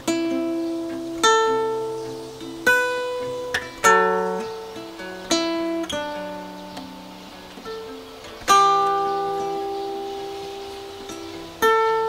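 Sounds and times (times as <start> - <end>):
acoustic guitar plucked chords: 0.0 - 12.0.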